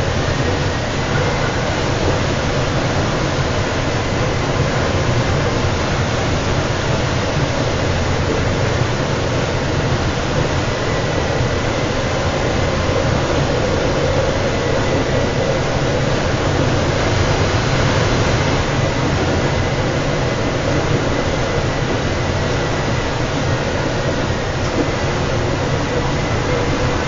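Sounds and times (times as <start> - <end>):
train rumbling and rushing: 0.0 - 27.0.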